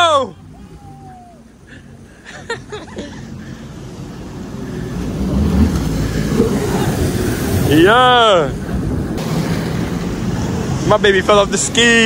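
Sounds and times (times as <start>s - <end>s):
rushing water: 0.0s - 12.0s
jet ski engine: 0.1s - 12.0s.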